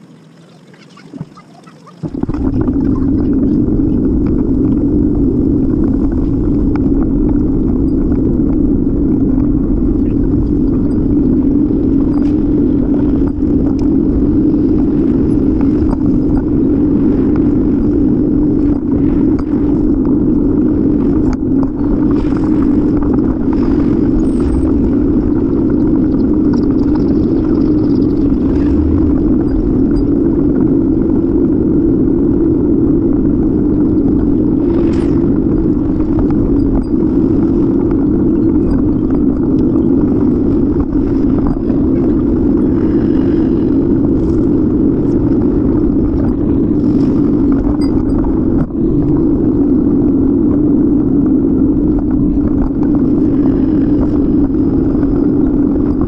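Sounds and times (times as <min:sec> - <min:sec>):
road rumble: 0:00.0 - 0:56.0
wind on microphone: 0:00.8 - 0:56.0.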